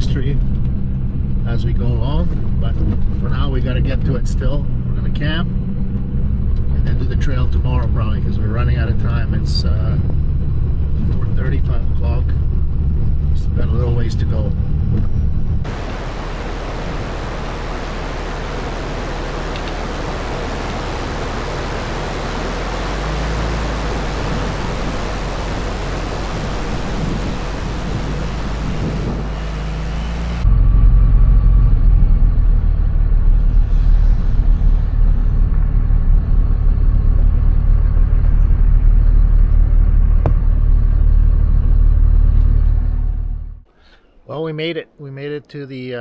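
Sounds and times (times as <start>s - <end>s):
deep driving rumble: 0.0s - 43.7s
truck driving on dirt road: 0.0s - 43.7s.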